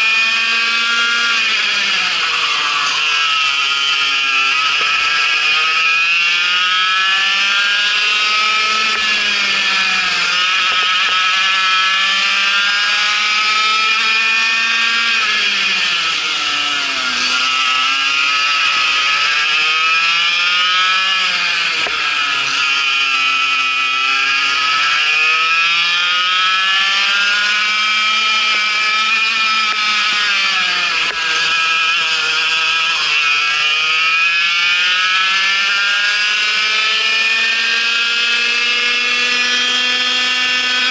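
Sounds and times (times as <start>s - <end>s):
kart engine at high revs: 0.0s - 40.9s.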